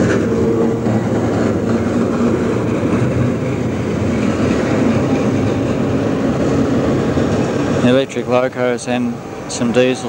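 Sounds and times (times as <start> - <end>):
tram wheels rolling on rails: 0.0 - 10.0.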